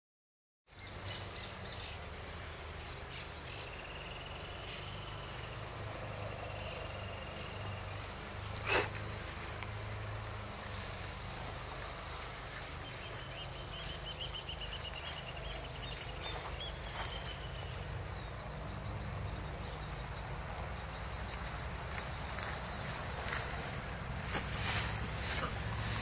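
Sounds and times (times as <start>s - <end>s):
insects chirping: 1.4s - 26.0s.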